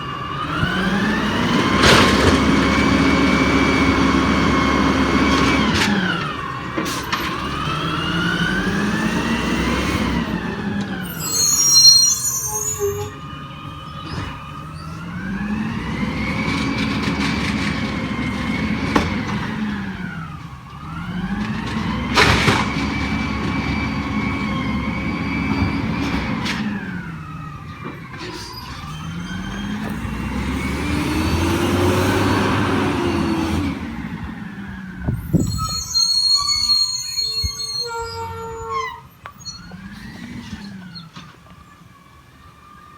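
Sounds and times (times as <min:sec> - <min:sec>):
truck engine and hydraulic whine: 0:00.0 - 0:42.9.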